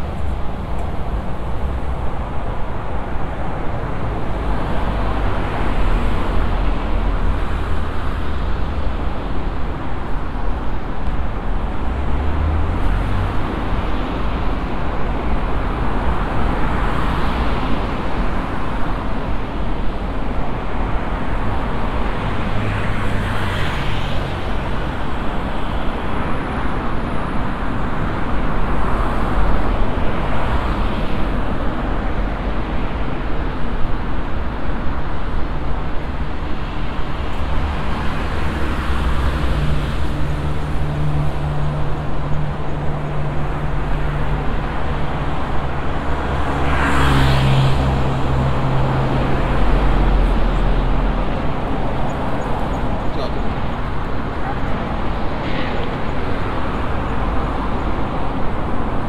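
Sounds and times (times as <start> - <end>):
cars passing close by: 0.0 - 59.0
road traffic: 0.0 - 59.0.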